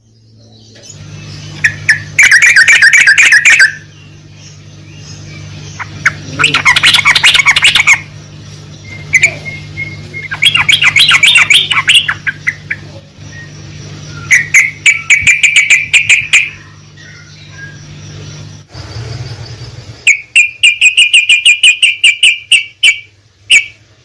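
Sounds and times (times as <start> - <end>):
bird chattering song: 0.0 - 24.0
steady low hum: 0.0 - 24.0.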